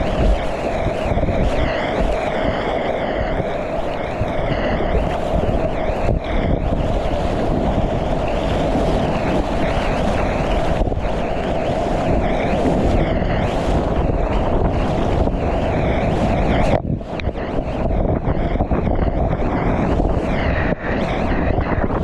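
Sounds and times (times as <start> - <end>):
whitewater rushing: 0.0 - 22.0
wind buffeting microphone: 0.0 - 22.0.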